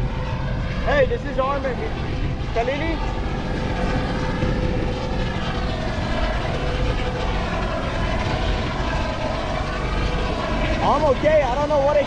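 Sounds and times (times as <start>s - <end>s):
engine drone: 0.0s - 12.0s
rough wind-like noise: 0.0s - 12.0s.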